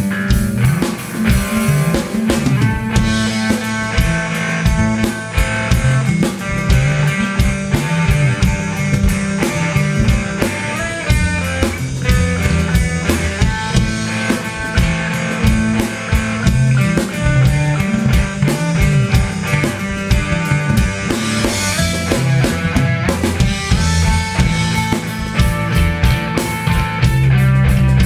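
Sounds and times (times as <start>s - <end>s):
bass line: 0.0s - 28.0s
drum kit beat: 0.0s - 28.0s
guitar: 0.0s - 28.0s.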